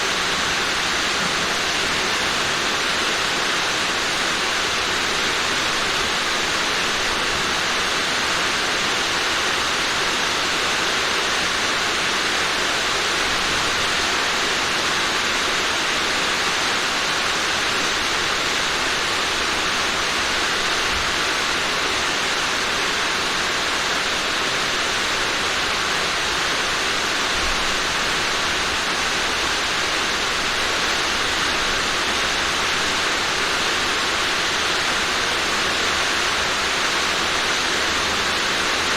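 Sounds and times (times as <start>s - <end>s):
rain on a roof: 0.0s - 38.9s.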